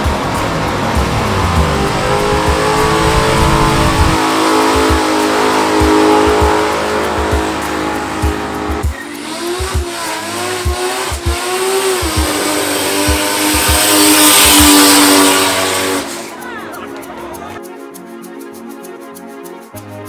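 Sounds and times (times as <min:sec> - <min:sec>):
car engine revving: 0:00.0 - 0:16.3
background music with a beat: 0:00.0 - 0:20.0.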